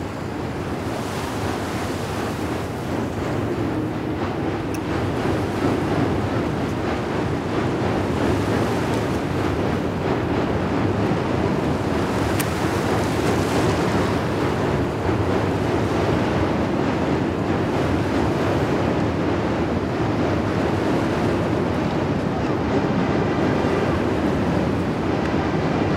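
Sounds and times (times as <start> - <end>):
wind on microphone: 0.0 - 25.9.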